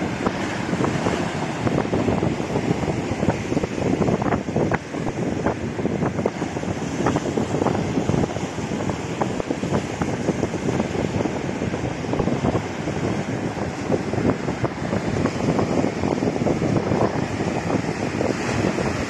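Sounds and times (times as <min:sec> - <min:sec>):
waves breaking: 0:00.0 - 0:19.0
wind gusts on microphone: 0:00.0 - 0:19.0.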